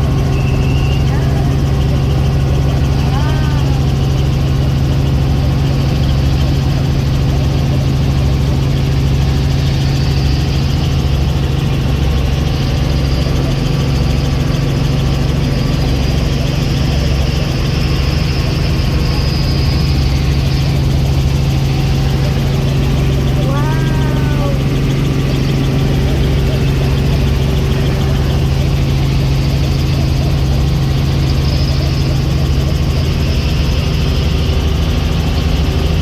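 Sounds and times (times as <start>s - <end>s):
helicopter engine and rotor: 0.0s - 36.0s.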